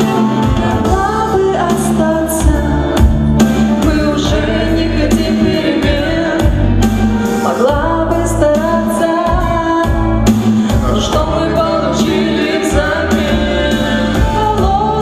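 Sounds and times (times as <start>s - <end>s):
instrumental backing track: 0.0s - 15.0s
person singing pop ballad: 0.0s - 15.0s.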